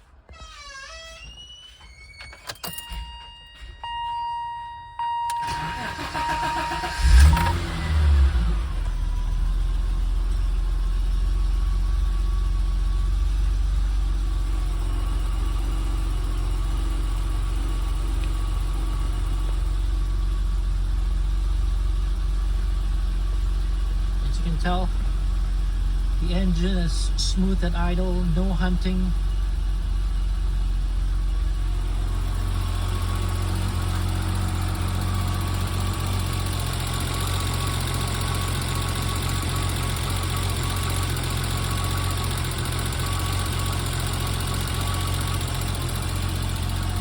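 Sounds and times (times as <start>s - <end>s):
car engine starting and idling: 0.0s - 47.0s.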